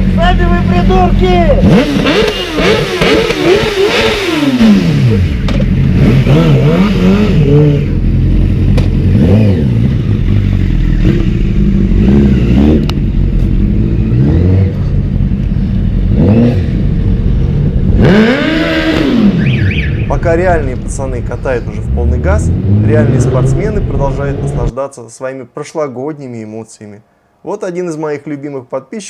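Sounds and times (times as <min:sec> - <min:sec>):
car engine revving: 0:00.0 - 0:24.7.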